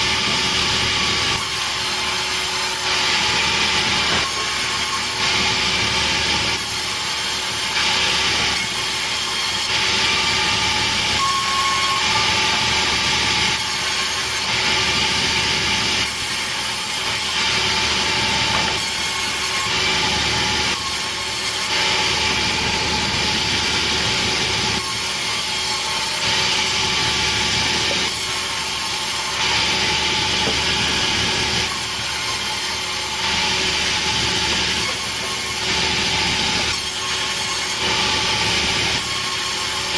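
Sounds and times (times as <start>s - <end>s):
saw rasping through log: 0.0s - 39.9s
sawmill machine running: 0.0s - 39.9s.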